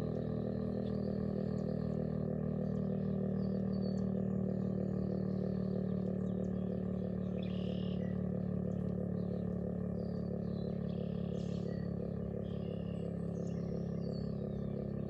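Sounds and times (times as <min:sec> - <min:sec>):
pulsing low warning siren: 0:00.0 - 0:15.0
birds chirping faintly: 0:00.1 - 0:15.0.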